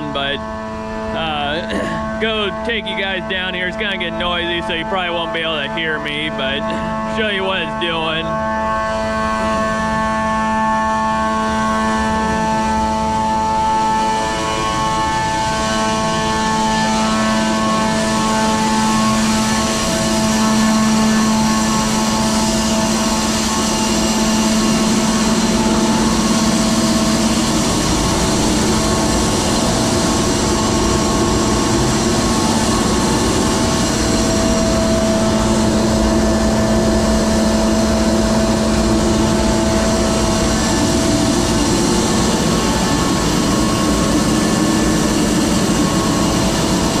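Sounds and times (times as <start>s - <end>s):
large fan and burner droning: 0.0s - 47.0s.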